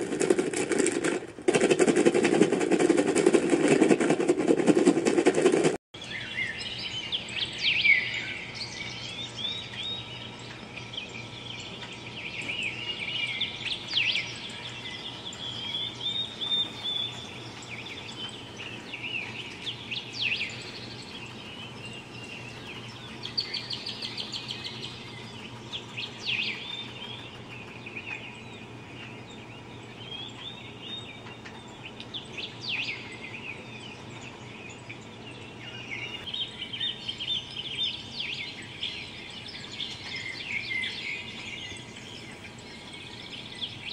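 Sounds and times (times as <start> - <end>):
recorded birdsong through speaker: 6.0 - 43.9.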